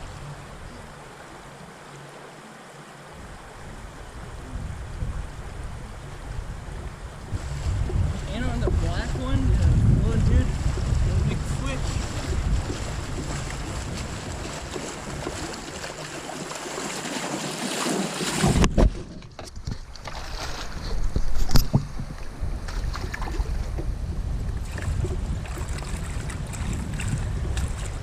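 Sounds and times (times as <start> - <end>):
river water: 0.0 - 28.0
wind on microphone: 3.1 - 16.5, 18.2 - 28.0.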